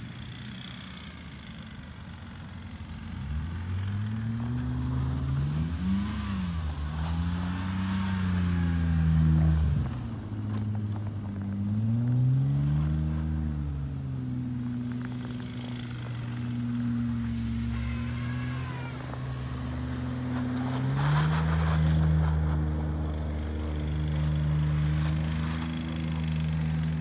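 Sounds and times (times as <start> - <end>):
tyres spinning on snow: 0.0 - 27.0
car engine revving: 2.6 - 27.0.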